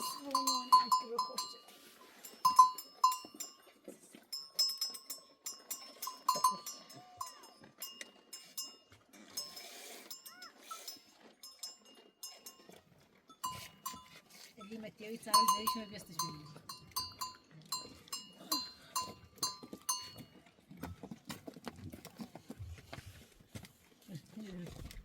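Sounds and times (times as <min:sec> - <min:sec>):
animal bells clinking: 0:00.0 - 0:20.8.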